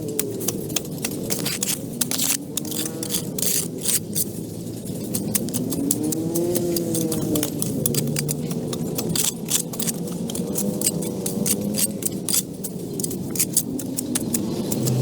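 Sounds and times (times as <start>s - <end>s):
metallic clicks and clinks: 0.0s - 15.0s
vehicle engines passing: 0.0s - 15.0s.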